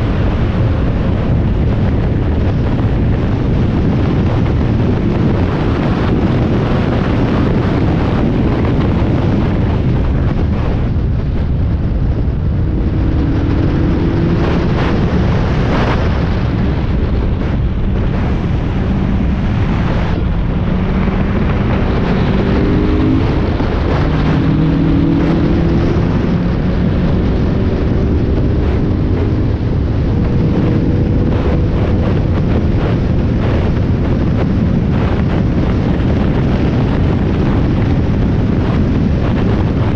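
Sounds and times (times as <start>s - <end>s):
car engine at racing speed: 0.0s - 39.9s
road rumble: 0.0s - 39.9s
wind buffeting microphone: 0.0s - 39.9s.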